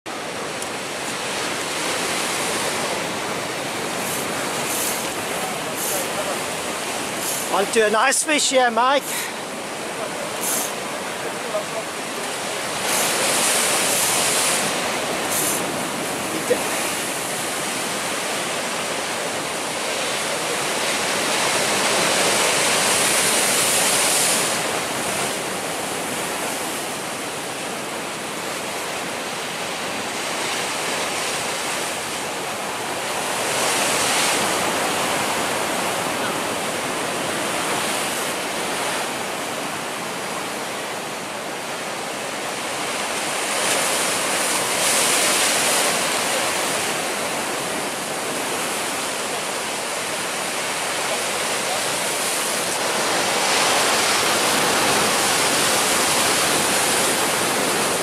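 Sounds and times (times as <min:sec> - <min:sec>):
surf washing over rocky shore: 0:00.1 - 0:58.0.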